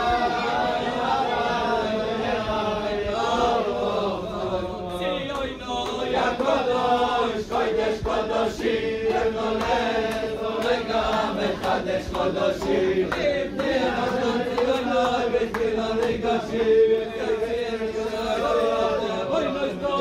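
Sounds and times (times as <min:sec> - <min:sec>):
men singing in unison: 0:00.0 - 0:20.0.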